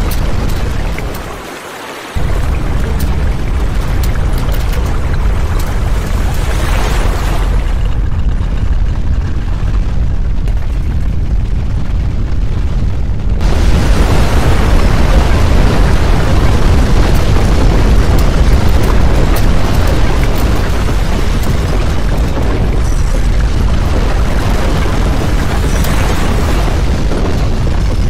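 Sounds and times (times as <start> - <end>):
deep earthquake rumbling: 0.0 - 1.4, 2.2 - 28.0.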